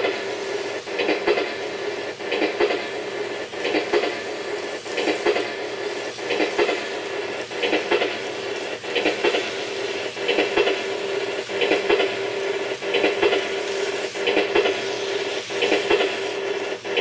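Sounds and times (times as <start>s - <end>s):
steady train running hum: 0.0s - 17.0s
train wheels clacking over rail joints: 0.0s - 17.0s.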